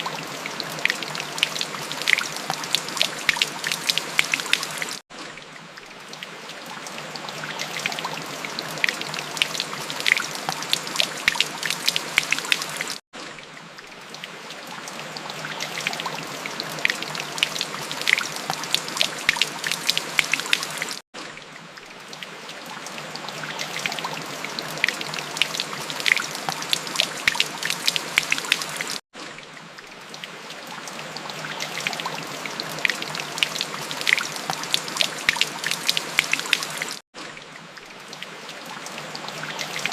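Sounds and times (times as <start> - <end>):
rain drops splashing: 0.0 - 39.9.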